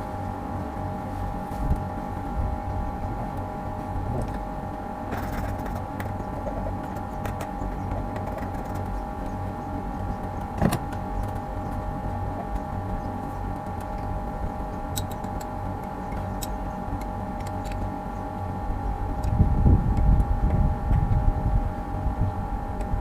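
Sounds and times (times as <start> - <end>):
machine hum with whine: 0.0 - 23.0.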